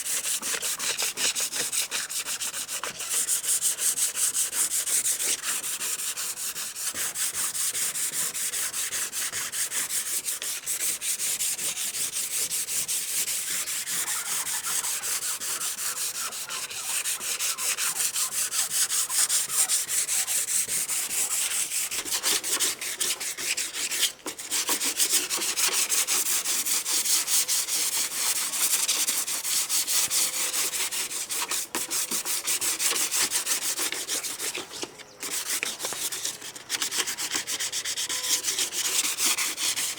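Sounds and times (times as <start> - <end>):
sandpaper rubbing: 0.0 - 39.9.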